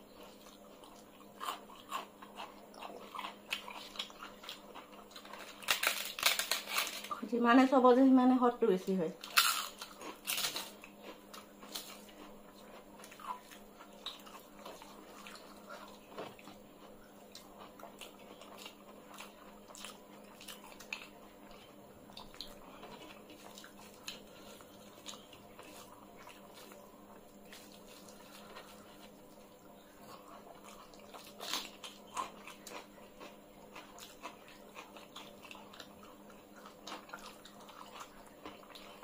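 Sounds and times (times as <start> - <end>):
wet chewing sounds: 0.0 - 7.2, 9.2 - 39.0
faint steady hum: 0.0 - 39.0.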